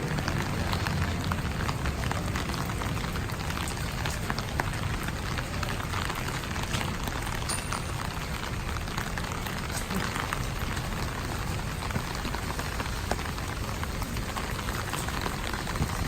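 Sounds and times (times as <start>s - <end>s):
raindrops ticking on a surface: 0.0s - 16.0s
steady rain falling: 0.0s - 16.0s.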